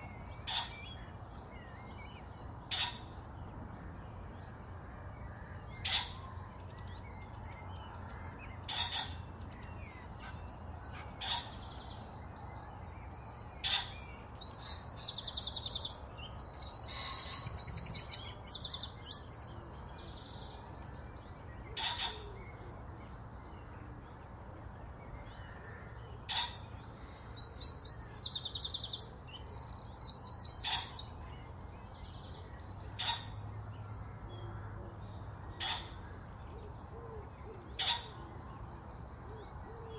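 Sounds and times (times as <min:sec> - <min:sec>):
songbird call notes: 0:00.0 - 0:03.3, 0:05.2 - 0:39.9
rapid trilled birdsong: 0:00.0 - 0:39.9.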